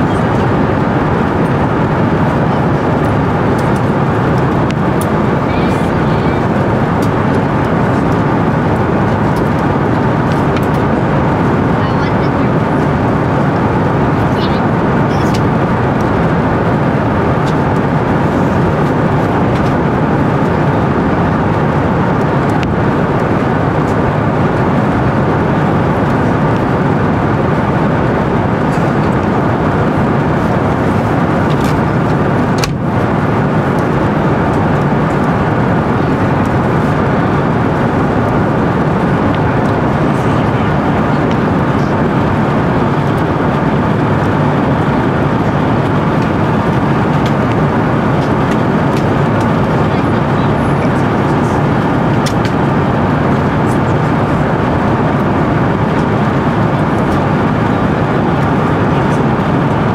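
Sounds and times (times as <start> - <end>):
aircraft cabin roar: 0.0 - 59.9.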